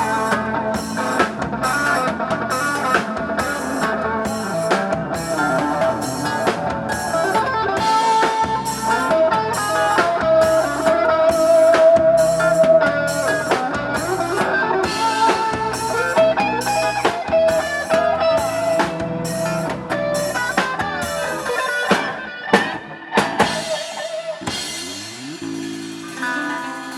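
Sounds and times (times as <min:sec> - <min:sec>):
drum kit beat: 0:00.0 - 0:26.9
electric guitar lead: 0:00.0 - 0:26.9.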